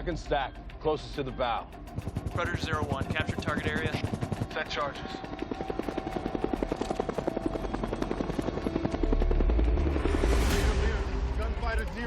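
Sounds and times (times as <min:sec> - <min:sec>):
helicopter rotor chop: 0:01.6 - 0:12.0.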